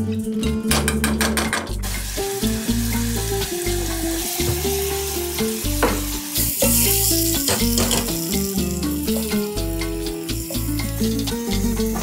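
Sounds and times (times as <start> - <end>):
garlic sizzling in butter: 1.8 - 12.0.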